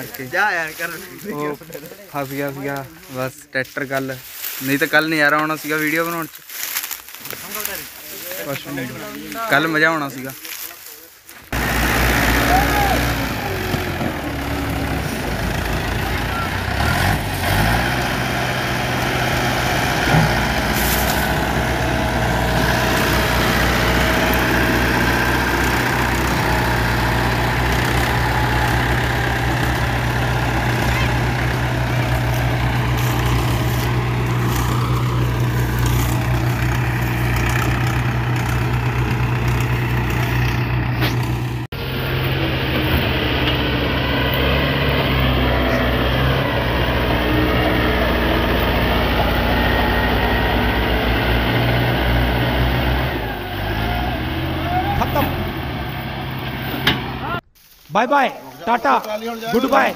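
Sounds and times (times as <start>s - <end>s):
diesel tractors under heavy load: 0.0s - 59.9s.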